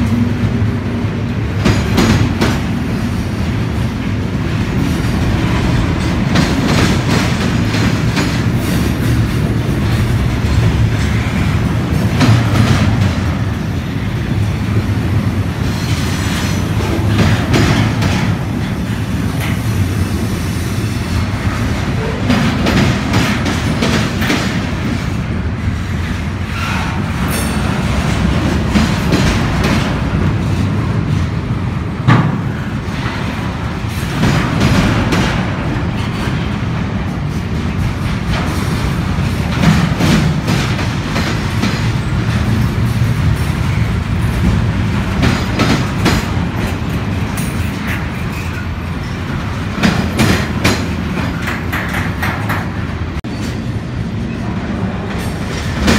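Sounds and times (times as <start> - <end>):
train wheels rumbling and clicking: 0.0 - 55.9.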